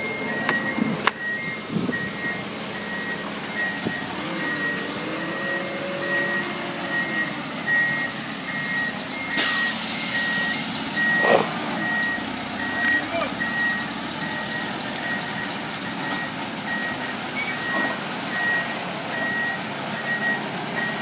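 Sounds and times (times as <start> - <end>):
backup alarm beeping: 0.0 - 21.0.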